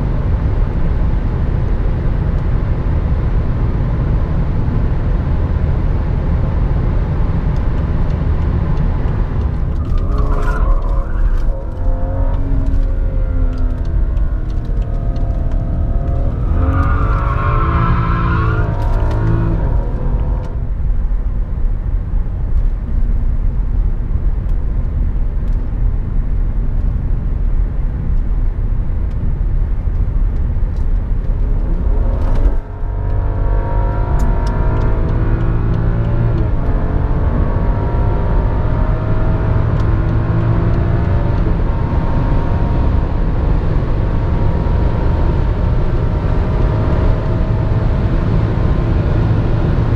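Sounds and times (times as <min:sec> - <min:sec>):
car engine running: 0:00.0 - 0:49.9
tyre and road rumble: 0:03.4 - 0:49.9.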